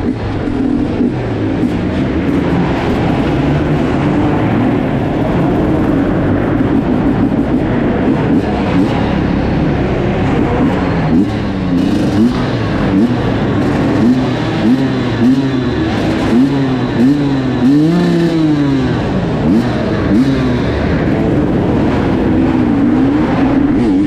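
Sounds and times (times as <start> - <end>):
motorcycle engine at low revs: 0.0 - 24.0.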